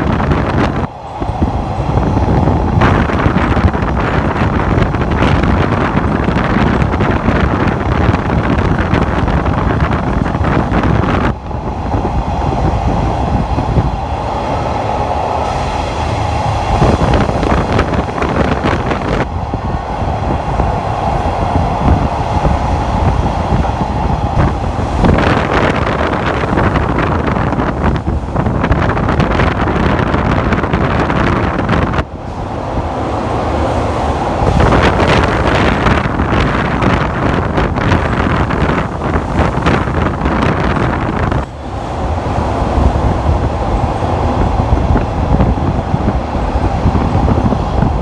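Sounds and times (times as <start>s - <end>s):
trolley car running on rails: 0.0s - 48.0s
wind buffeting microphone: 0.0s - 48.0s.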